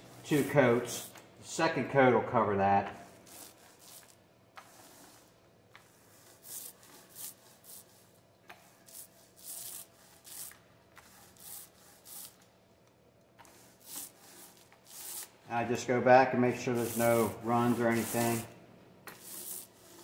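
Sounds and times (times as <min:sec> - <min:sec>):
paint roller hissing on wood: 0:00.0 - 0:01.7, 0:02.8 - 0:12.5, 0:13.4 - 0:15.8, 0:16.4 - 0:18.5, 0:19.1 - 0:20.0.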